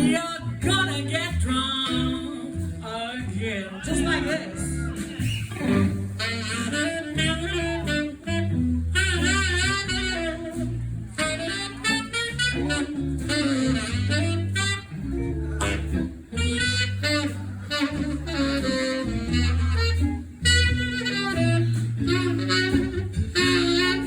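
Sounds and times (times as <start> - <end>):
bass and guitar backing: 0.0 - 24.0
saxophone lead with vibrato: 0.0 - 24.0.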